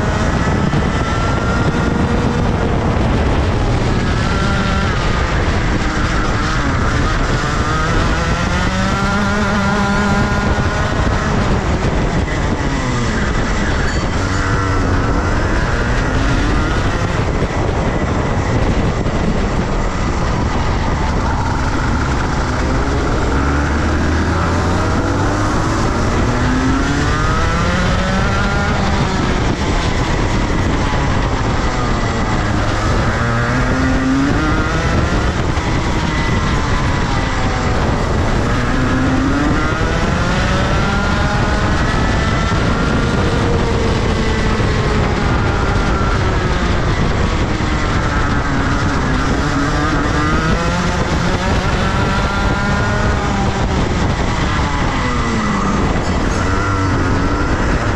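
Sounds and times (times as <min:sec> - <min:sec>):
kart engine racing: 0:00.0 - 0:57.9.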